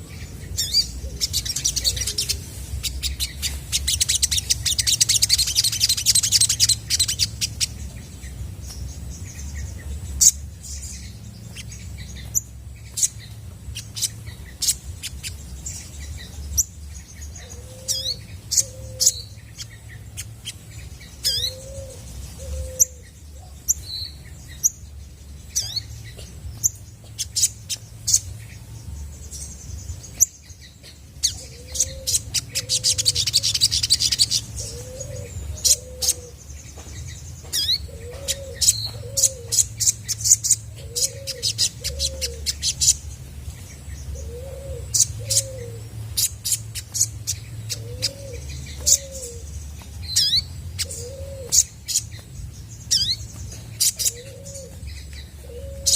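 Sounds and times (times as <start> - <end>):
sunbird chirps and whistles: 0.0 - 28.4, 29.5 - 36.4, 44.2 - 55.9.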